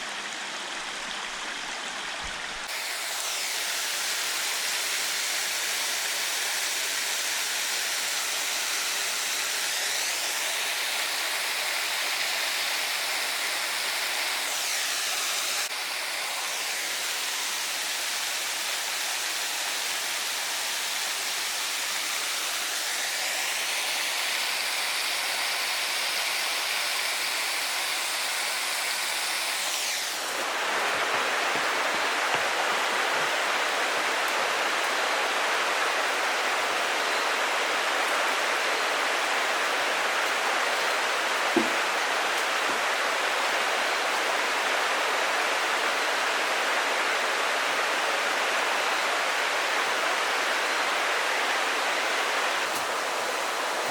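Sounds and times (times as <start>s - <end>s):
water rushing: 0.0s - 53.9s.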